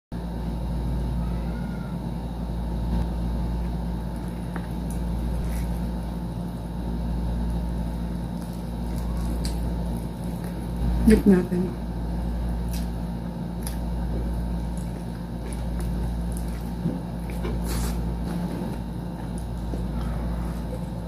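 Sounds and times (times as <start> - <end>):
low background hum: 0.2 - 21.0
crunchy chewing: 2.9 - 11.1, 11.8 - 21.0.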